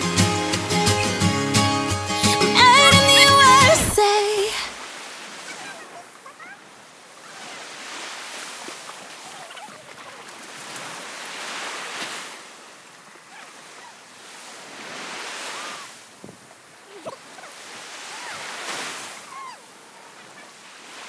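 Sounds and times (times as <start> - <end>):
small waves breaking on beach: 2.7 - 21.0.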